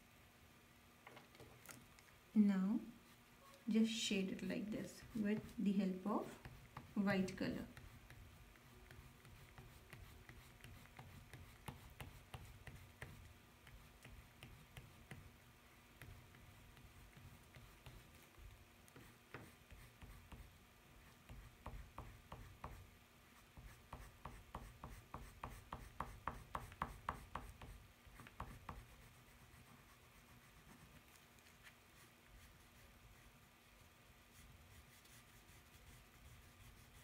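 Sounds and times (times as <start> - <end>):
pastel scratching on paper: 4.8 - 15.4, 16.0 - 22.8, 23.4 - 33.5, 34.3 - 37.0.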